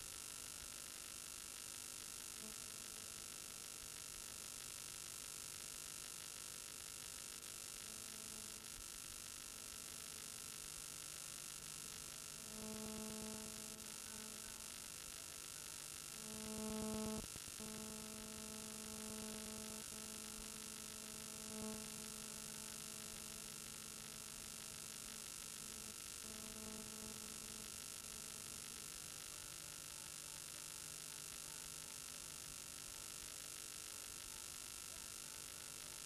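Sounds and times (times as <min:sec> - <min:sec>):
faint electrical hum: 0:00.0 - 0:36.0.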